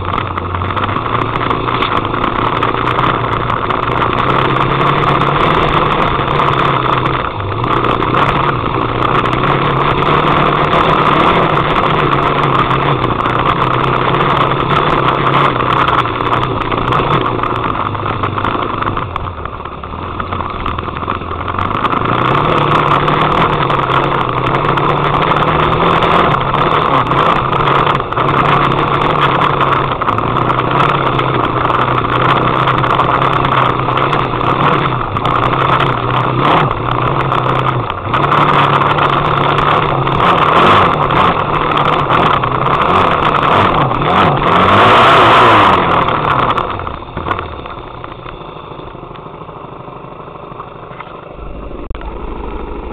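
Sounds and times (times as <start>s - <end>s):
off-road vehicle engine running: 0.0s - 52.9s.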